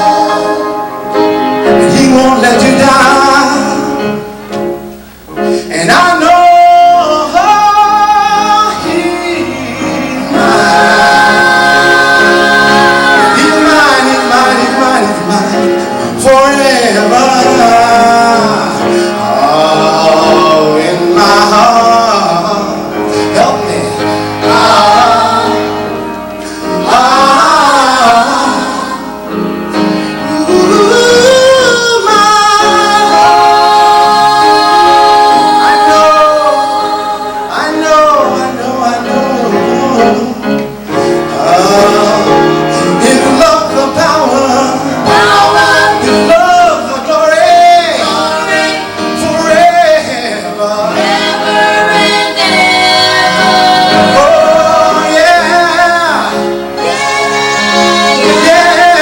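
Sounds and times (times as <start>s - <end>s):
gospel group singing: 0.0s - 59.0s.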